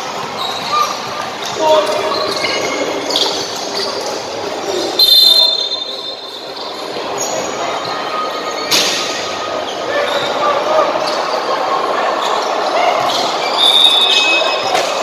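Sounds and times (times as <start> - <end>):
crowd chatter: 0.0 - 15.0
shoe squeal: 0.0 - 15.0.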